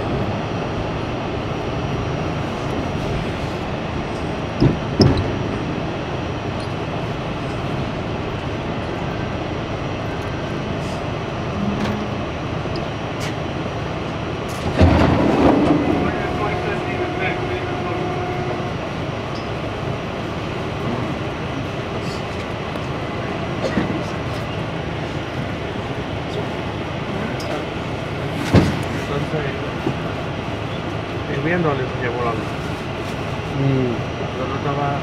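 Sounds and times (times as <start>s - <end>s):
subway car wheels rumbling: 0.0s - 35.0s.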